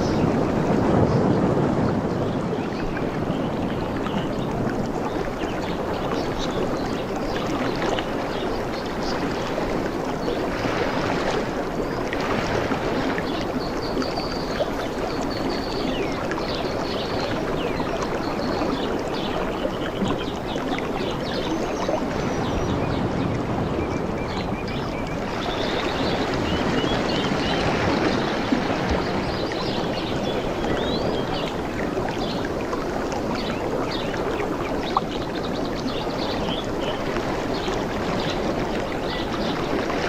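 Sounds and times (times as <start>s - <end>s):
sea water washing and lapping: 0.0s - 40.0s.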